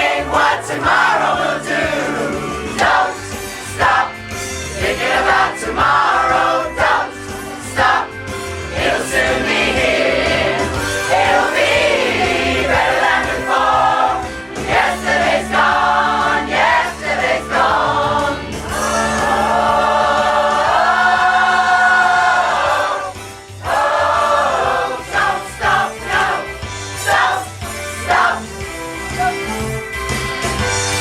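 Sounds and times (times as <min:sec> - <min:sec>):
choir singing: 0:00.0 - 0:28.6.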